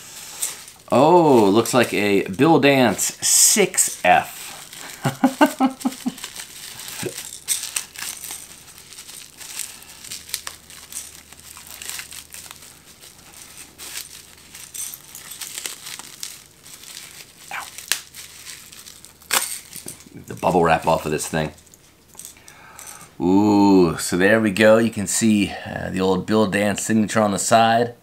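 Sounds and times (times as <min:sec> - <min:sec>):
bubble wrap crinkling: 0:00.0 - 0:22.9.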